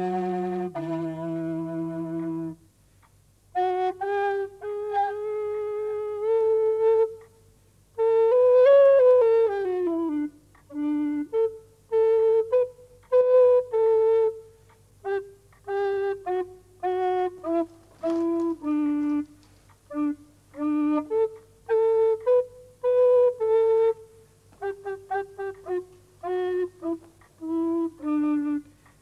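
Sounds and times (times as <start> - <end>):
solo flute melody: 0.0 - 2.8, 3.5 - 29.0.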